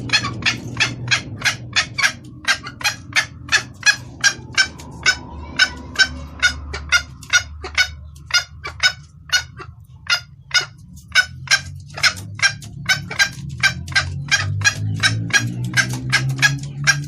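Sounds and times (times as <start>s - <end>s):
hen clucking: 0.0s - 17.0s.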